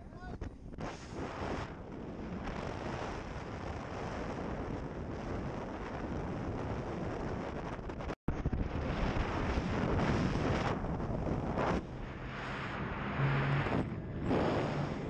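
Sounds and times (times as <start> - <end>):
boat engine rumble: 0.0 - 15.0
wind on microphone: 0.0 - 15.0
water noise from boat: 0.5 - 15.0.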